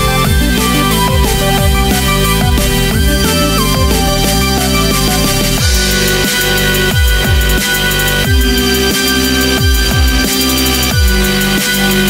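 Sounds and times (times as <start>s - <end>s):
electronic dance music: 0.0s - 12.0s
sliding bass line: 0.0s - 12.0s
sustained synth tones: 0.0s - 12.0s.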